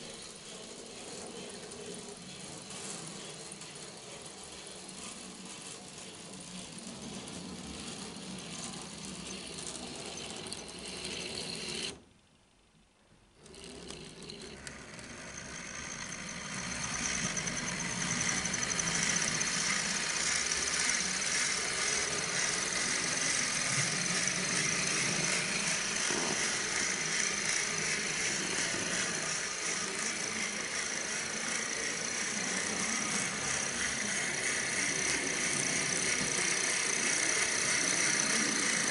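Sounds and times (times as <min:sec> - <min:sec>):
metal wheels rolling on track: 0:00.0 - 0:12.0, 0:13.4 - 0:38.9
model train motor whirring: 0:00.0 - 0:12.1, 0:13.4 - 0:38.9.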